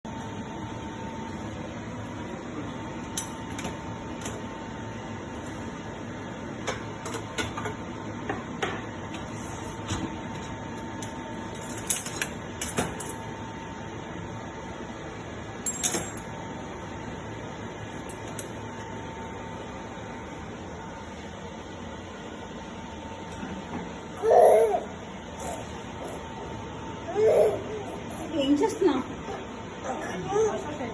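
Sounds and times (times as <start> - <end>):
steady background hum: 0.0 - 30.9.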